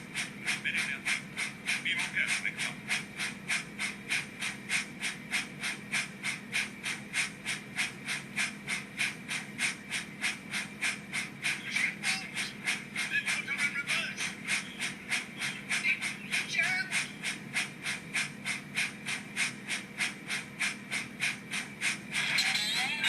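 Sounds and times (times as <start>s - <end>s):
model train steam chuff: 0.0s - 23.0s.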